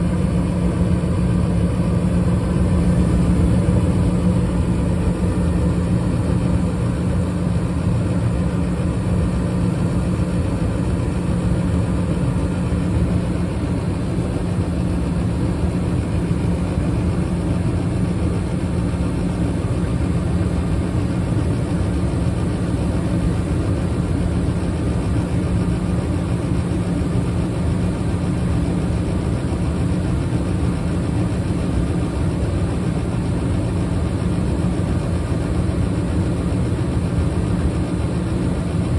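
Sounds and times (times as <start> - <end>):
constant low hum: 0.0 - 38.9.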